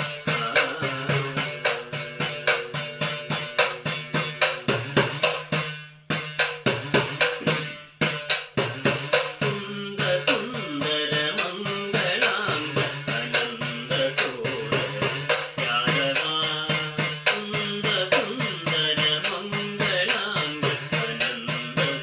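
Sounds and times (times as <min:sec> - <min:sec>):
hourglass drum struck with stick: 0:00.0 - 0:22.0.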